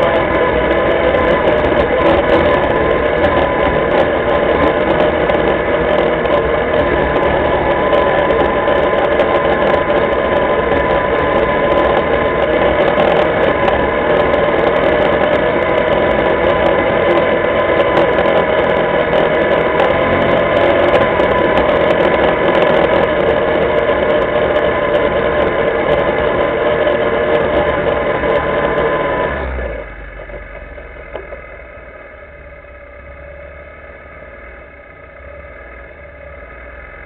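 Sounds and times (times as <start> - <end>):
quad bike engine running: 0.0 - 37.0.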